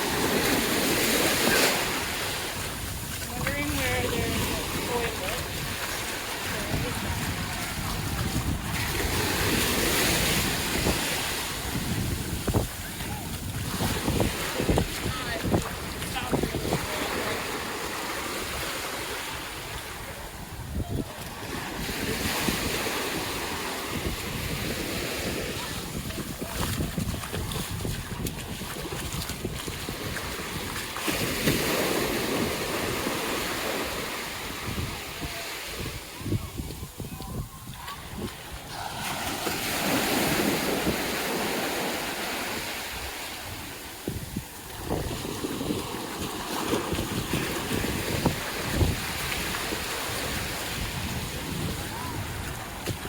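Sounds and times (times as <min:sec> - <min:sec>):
surf washing up the beach: 0:00.0 - 0:53.0
waves breaking on sand: 0:00.0 - 0:53.0
wind rumbling on microphone: 0:00.0 - 0:53.0.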